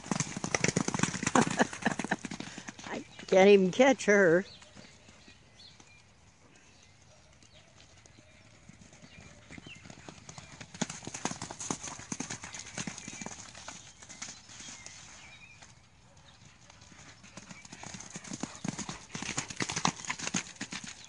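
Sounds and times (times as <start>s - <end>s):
horse hoofbeats on muddy ground: 0.0s - 6.2s, 7.0s - 21.0s.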